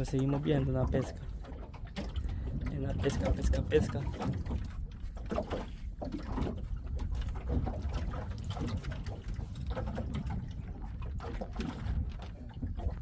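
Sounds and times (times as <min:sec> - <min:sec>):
short splashes and knocks: 0:00.0 - 0:13.0
water sloshing against boat: 0:00.0 - 0:13.0
wind rumble on microphone: 0:00.0 - 0:13.0.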